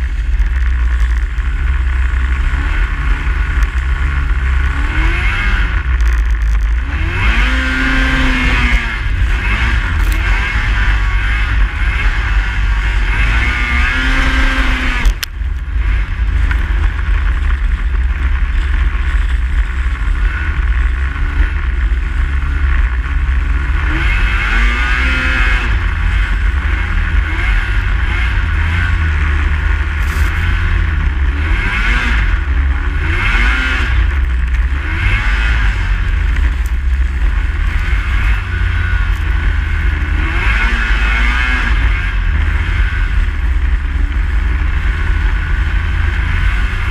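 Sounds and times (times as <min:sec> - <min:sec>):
snowmobile engine running: 0:00.0 - 0:46.9.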